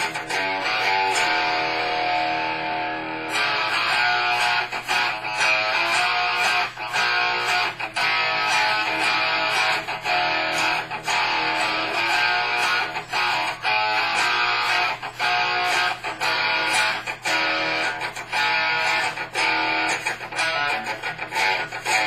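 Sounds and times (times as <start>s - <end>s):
electric guitar riffing: 0.0s - 22.0s.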